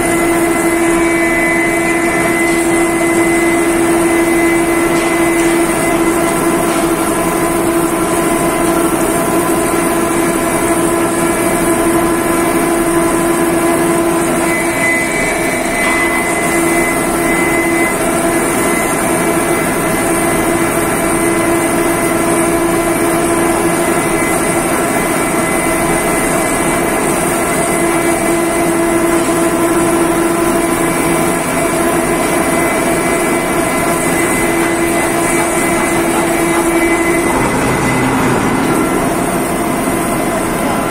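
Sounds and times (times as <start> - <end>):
higher mechanical whine: 0.0 - 40.9
machine mechanical hum: 0.0 - 40.9.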